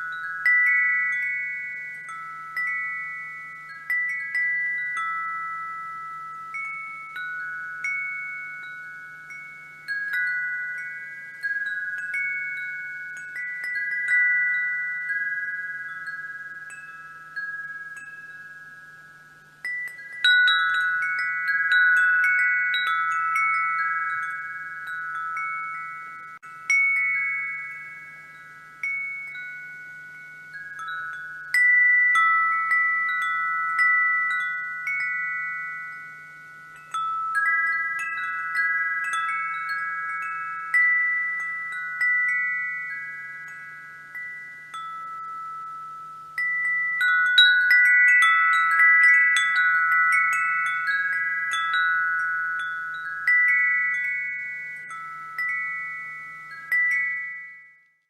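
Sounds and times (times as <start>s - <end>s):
wind chimes ringing: 0.0s - 58.0s.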